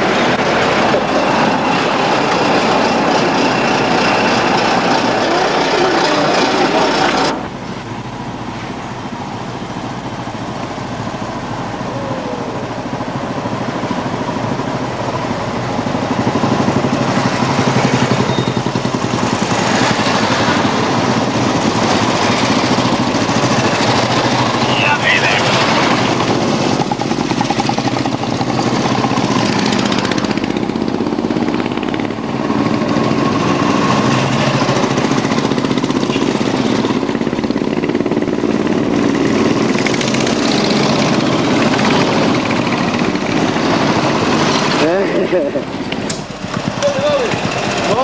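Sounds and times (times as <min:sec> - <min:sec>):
motorcycles approaching: 0:00.0 - 0:48.0
truck engine running: 0:00.0 - 0:48.0.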